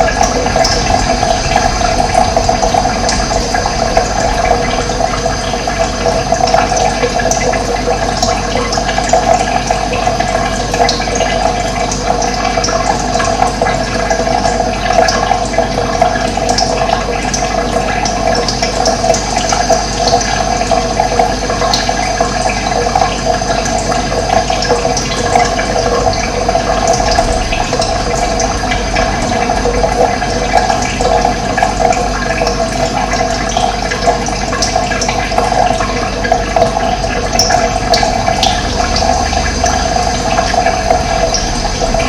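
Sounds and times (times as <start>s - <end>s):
running water rushing: 0.0s - 42.0s.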